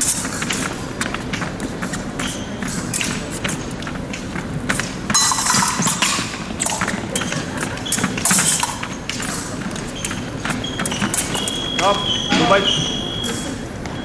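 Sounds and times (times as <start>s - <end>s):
feet stamping and sliding: 0.0s - 11.8s.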